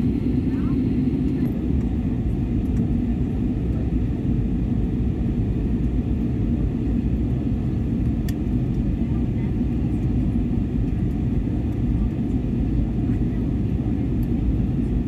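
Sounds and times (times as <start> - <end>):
airliner cabin jet engine rumble: 0.0 - 15.0.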